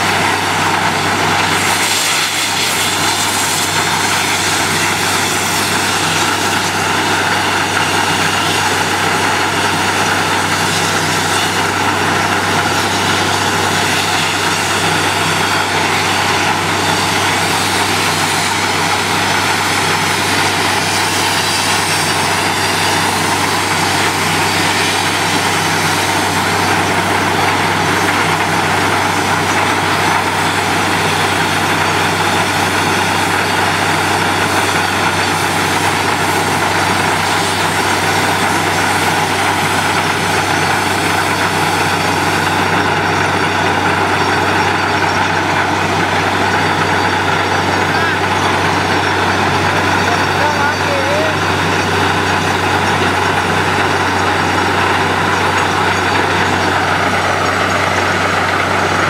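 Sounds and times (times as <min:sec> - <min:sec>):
drilling rig rushing noise: 0:00.0 - 0:59.0.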